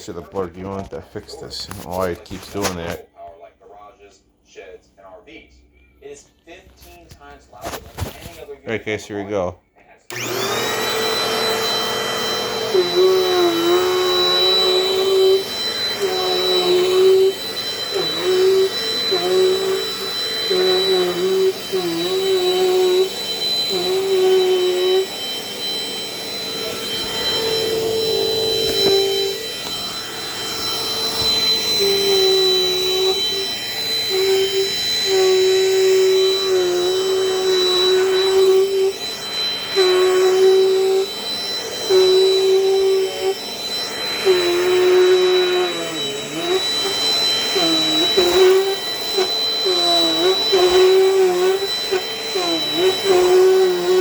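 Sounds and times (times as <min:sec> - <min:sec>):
vacuum cleaner running: 0:01.5 - 0:03.0, 0:10.1 - 0:54.0.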